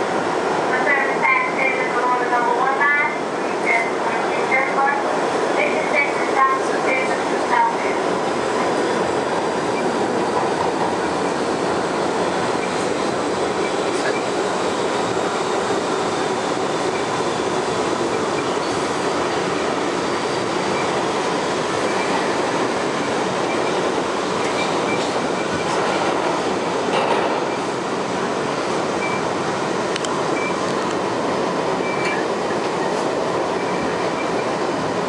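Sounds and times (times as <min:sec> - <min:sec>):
subway train rumble: 0:00.0 - 0:35.0.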